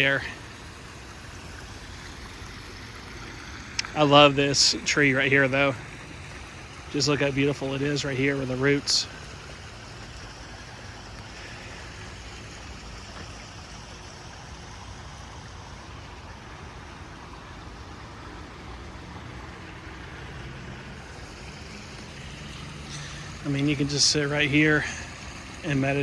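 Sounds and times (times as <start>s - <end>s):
creek flowing over stones: 0.0s - 26.0s.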